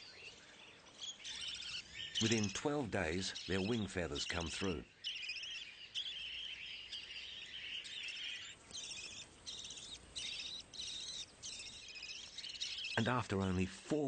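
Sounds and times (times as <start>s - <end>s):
budgerigars chirping: 0.0s - 13.6s.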